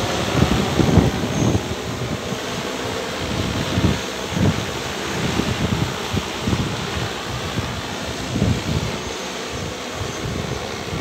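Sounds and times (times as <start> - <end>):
drone rotors droning: 0.0 - 11.0
wind buffeting microphone: 0.0 - 11.0.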